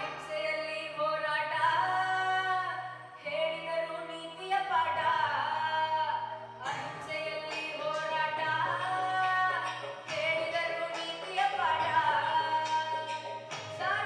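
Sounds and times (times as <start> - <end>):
low steady musical backing: 0.0 - 14.0.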